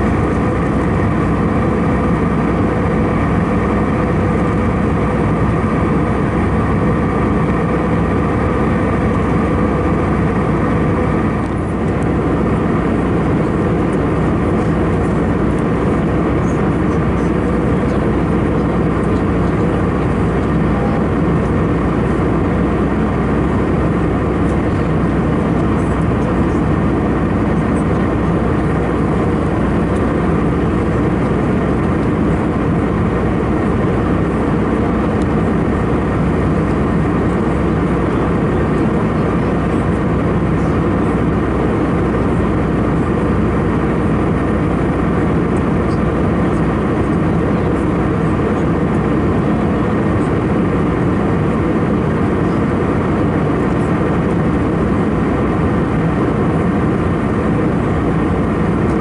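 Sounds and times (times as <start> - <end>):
airflow over fuselage: 0.0 - 59.0
airplane cabin engine drone: 0.0 - 59.0
faint steady whine: 0.0 - 59.0.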